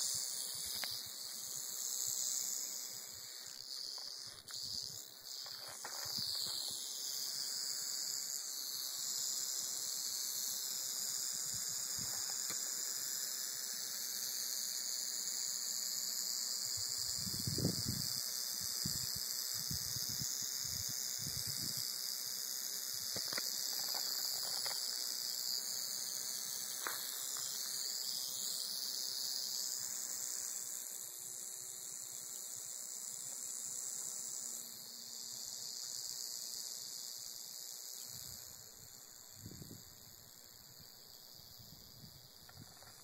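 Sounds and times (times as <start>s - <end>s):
rattlesnake rattling: 0.0s - 43.0s.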